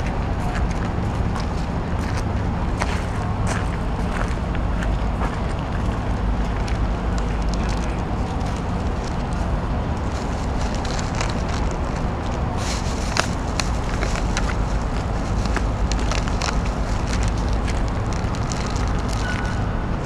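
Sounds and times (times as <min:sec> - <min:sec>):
low outdoor rumble: 0:00.0 - 0:20.0
small clicks and crackles: 0:02.8 - 0:19.6.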